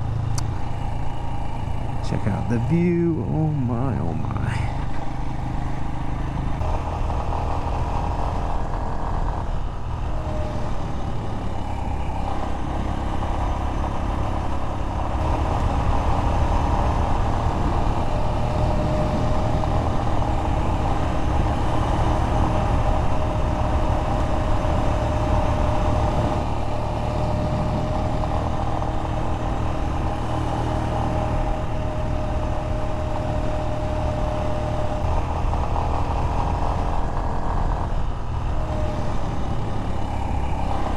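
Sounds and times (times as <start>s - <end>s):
motorcycle engine rumbling: 0.0s - 40.9s
road and wind noise: 0.0s - 40.9s.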